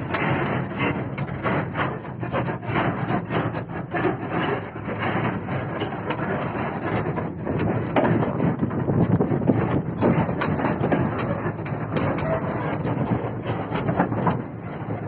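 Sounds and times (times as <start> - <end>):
steel tracks scraping and grinding: 0.0 - 15.0.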